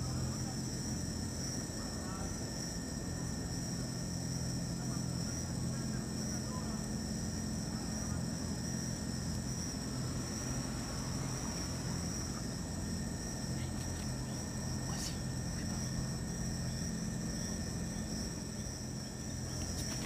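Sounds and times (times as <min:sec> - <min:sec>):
night insects chorus: 0:00.0 - 0:20.0.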